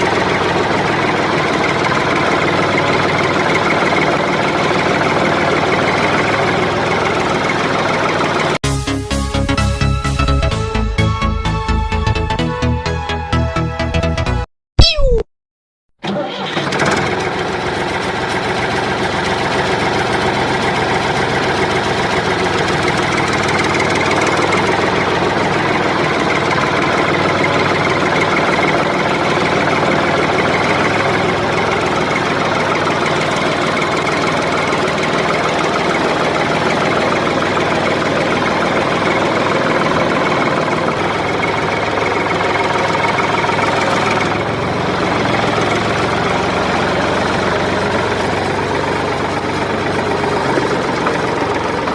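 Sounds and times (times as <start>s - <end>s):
tractor engine idling: 0.0s - 8.6s, 16.1s - 51.9s.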